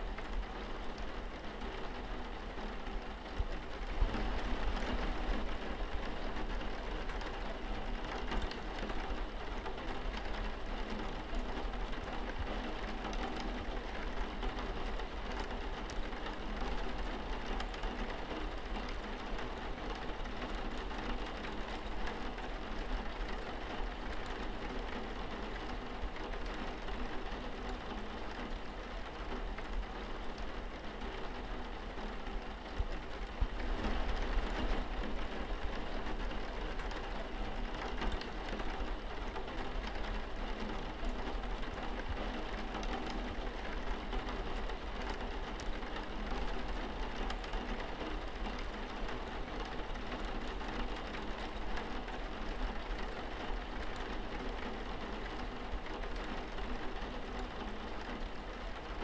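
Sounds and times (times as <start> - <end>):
rain on window glass: 0.0 - 59.0.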